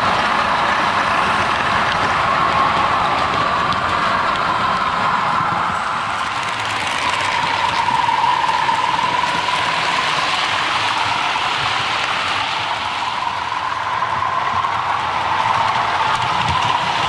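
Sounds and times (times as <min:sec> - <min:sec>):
model train wheels rattling on track: 0:00.0 - 0:17.0.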